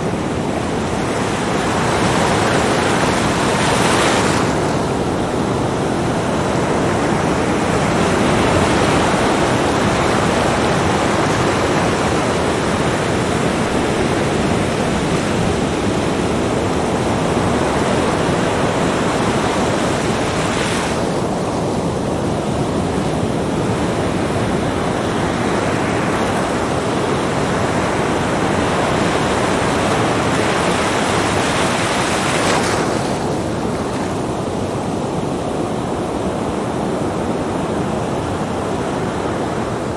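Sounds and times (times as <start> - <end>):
surf washing up a beach: 0.0 - 39.9.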